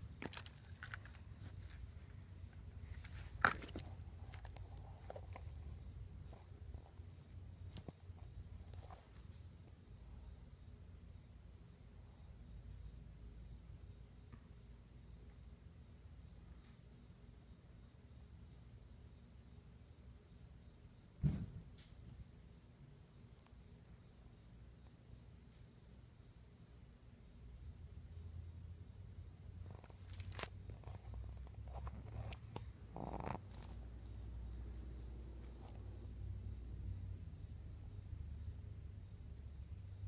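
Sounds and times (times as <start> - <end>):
crickets trilling: 0.0 - 40.0.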